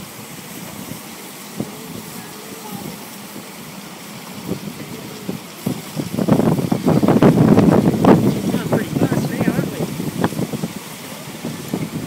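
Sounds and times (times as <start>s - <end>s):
miniature train running: 0.0s - 12.0s.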